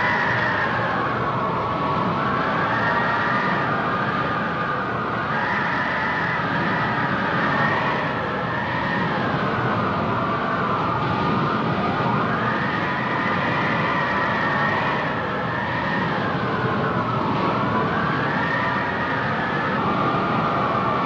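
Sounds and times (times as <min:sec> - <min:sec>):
howling wind whistling tones: 0:00.0 - 0:21.0
rushing wind roar: 0:00.0 - 0:21.0.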